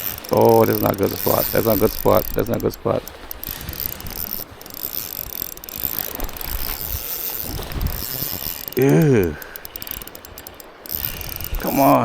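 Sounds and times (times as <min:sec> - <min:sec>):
fishing reel clicking and whirring: 0:00.0 - 0:12.0.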